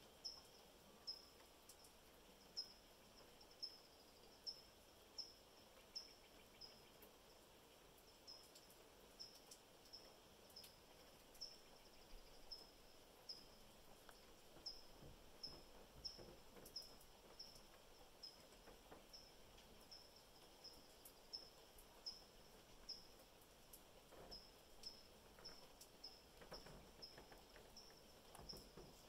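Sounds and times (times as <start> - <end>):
faint ticks: 0.0 - 7.2, 7.9 - 29.0
cricket chirping: 0.2 - 7.4, 8.0 - 29.0.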